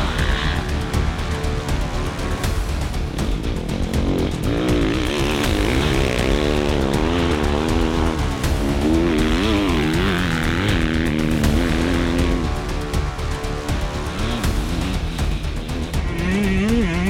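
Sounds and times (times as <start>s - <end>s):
background music: 0.0s - 17.0s
dirt bike engine revving: 0.0s - 17.0s.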